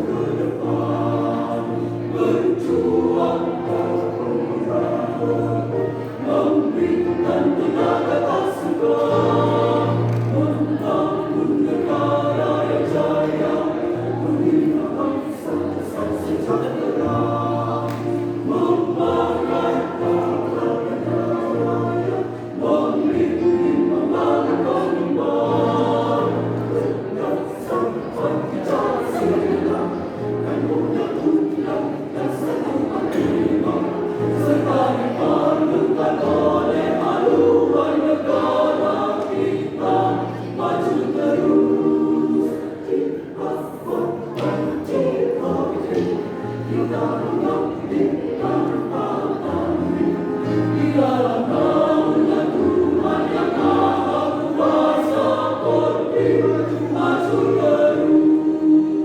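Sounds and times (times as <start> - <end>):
choir singing in parts: 0.0 - 59.0.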